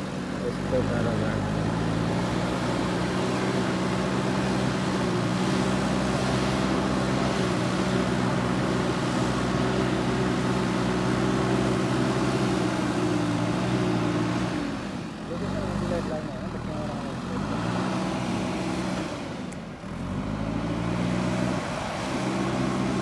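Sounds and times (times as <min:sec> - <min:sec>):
diesel engine running under load: 0:00.0 - 0:23.0
loader bucket pushing soil: 0:00.0 - 0:23.0.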